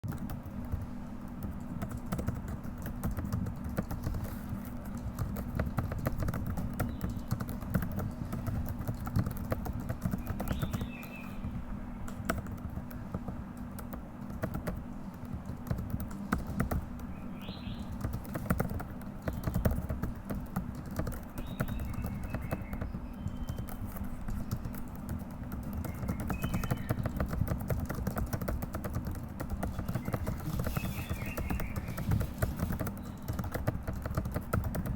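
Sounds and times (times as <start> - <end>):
fast typing on keyboard: 0.0 - 34.9.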